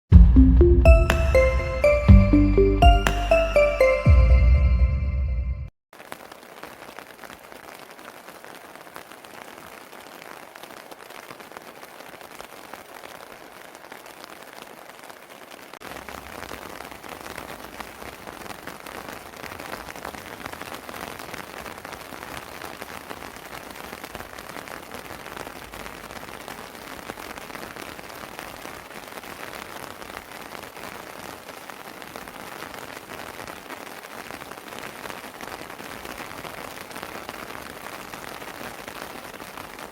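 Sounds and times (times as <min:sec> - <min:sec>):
steady rain falling: 0:06.0 - 0:39.9.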